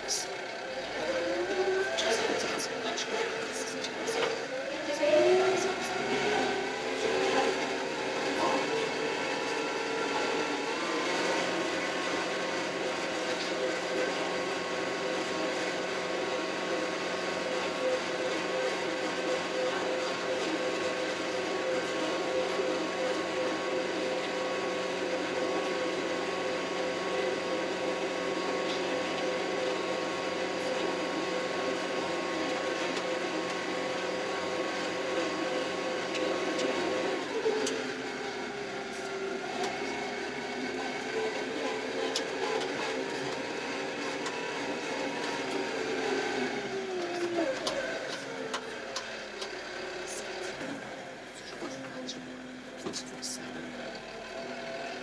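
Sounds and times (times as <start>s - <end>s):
tractor diesel engine whining: 0.0s - 55.0s.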